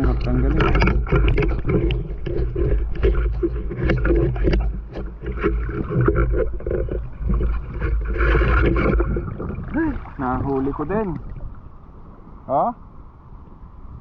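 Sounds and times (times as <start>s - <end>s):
water sloshing and splashing: 0.0s - 12.4s.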